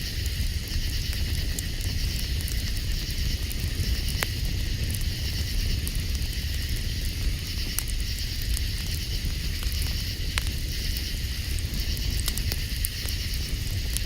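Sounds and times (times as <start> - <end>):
constant low rumble: 0.0 - 14.0.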